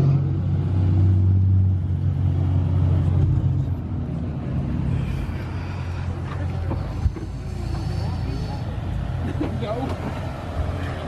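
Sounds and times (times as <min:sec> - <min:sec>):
car engine idling: 0:01.7 - 0:11.0.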